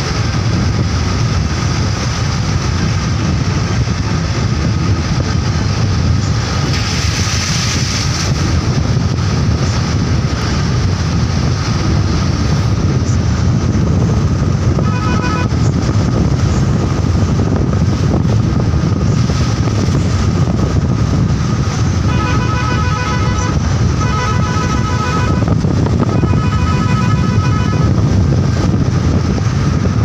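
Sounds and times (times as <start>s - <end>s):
vehicle road noise rumble: 0.0s - 30.0s
wind blowing on microphone: 0.0s - 30.0s.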